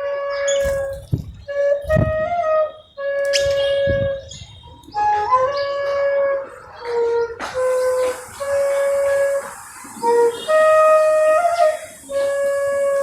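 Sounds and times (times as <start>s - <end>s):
flute playing slow tune: 0.0s - 13.0s.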